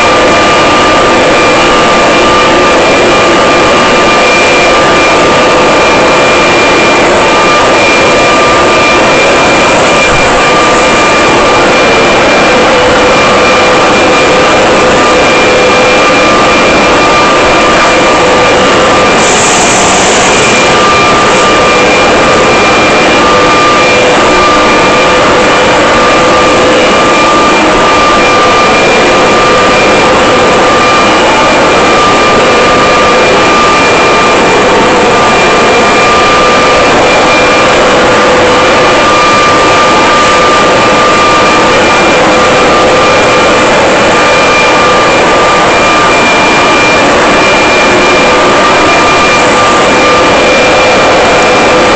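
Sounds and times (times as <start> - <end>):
leaf blower running: 0.2 - 51.9.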